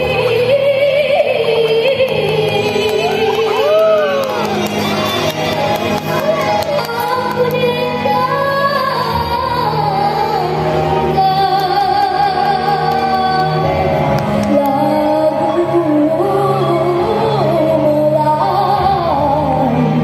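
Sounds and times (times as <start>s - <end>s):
woman singing into microphone: 0.0s - 4.5s, 6.0s - 20.0s.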